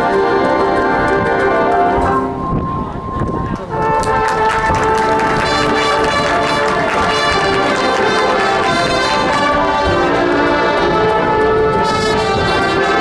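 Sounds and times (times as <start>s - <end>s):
brass chords: 0.0s - 13.0s
marching band playing: 0.0s - 13.0s.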